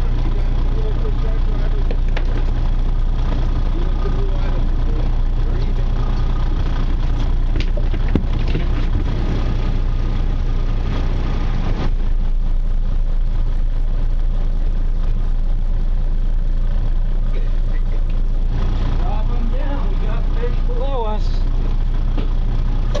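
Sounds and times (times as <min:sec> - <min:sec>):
boat engine drone: 0:00.0 - 0:23.0.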